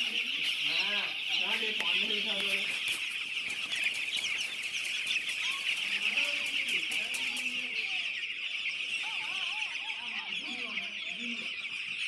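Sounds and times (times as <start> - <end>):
chickens cheeping: 0.0 - 12.0
chickens clucking: 0.0 - 12.0.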